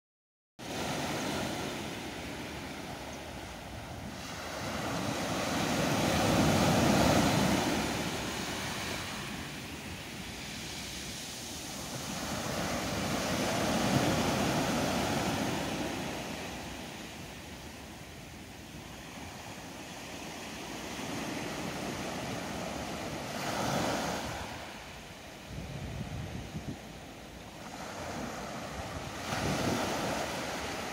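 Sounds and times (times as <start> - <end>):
small waves breaking on beach: 0.6 - 30.9.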